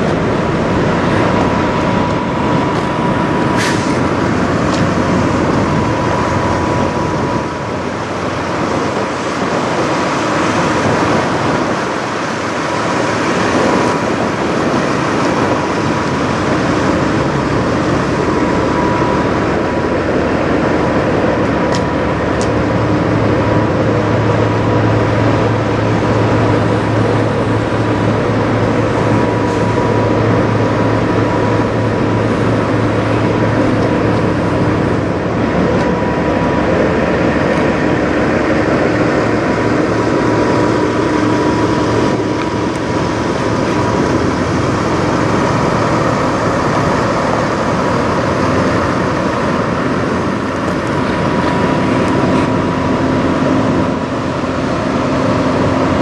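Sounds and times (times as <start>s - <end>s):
deep hum: 0.0s - 56.0s
diesel truck engines idling: 0.0s - 56.0s
thin high whine: 0.0s - 56.0s.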